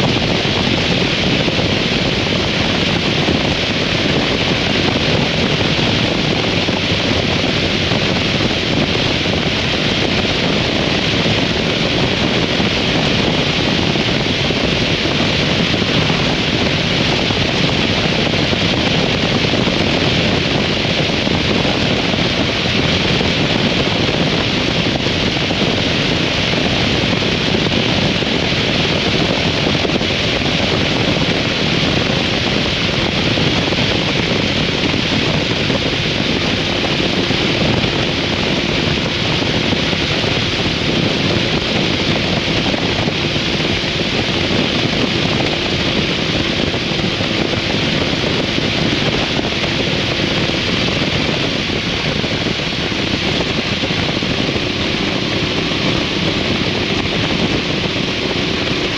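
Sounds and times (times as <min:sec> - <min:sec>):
motorcycle engine cruising: 0:00.0 - 0:58.9
wind rushing over microphone: 0:00.0 - 0:58.9.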